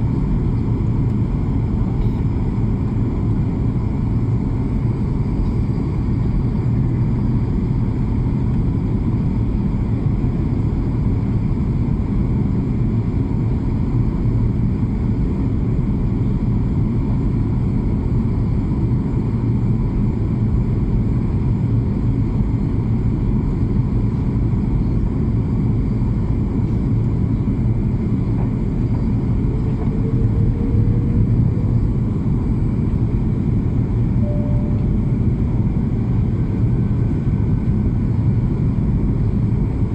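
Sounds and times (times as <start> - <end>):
airplane in flight rumble: 0.0 - 39.9.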